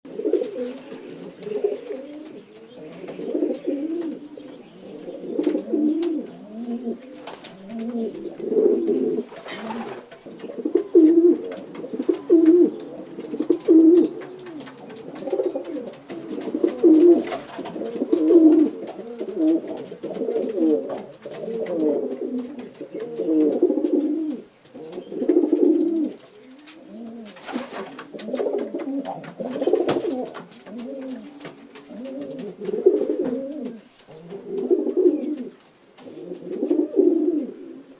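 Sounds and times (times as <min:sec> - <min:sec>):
pigeons cooing: 0:00.1 - 0:37.9
rustling: 0:00.1 - 0:37.9.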